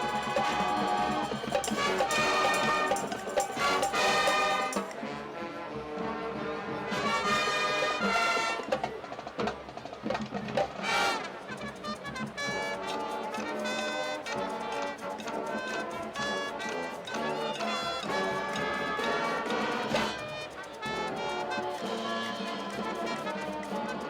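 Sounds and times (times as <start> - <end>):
marching band playing latin jazz: 0.0 - 24.0.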